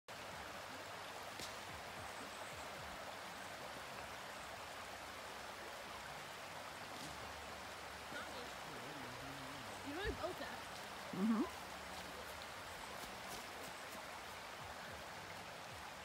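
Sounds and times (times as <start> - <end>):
water rushing over stones: 0.1 - 16.0.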